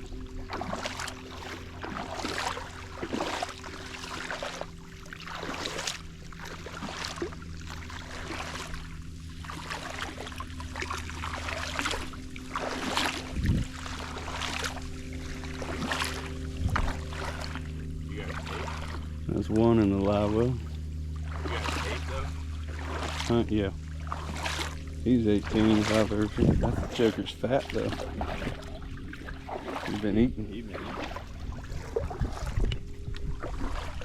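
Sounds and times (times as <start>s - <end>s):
water splashing and sloshing: 0.0s - 34.0s.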